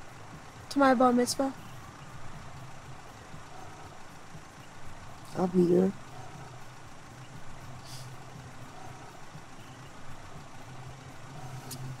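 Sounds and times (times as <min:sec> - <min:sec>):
car engine cabin hum: 0:00.0 - 0:12.0.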